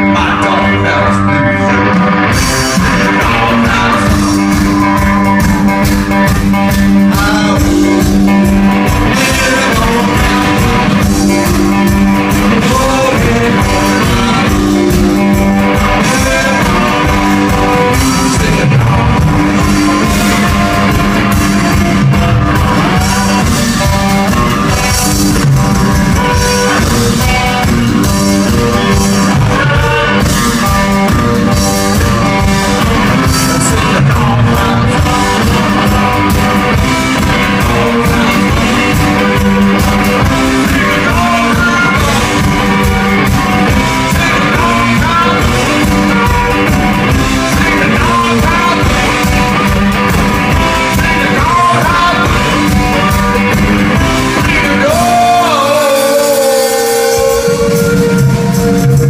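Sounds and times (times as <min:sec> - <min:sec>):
live blues guitar band: 0:00.0 - 0:59.0.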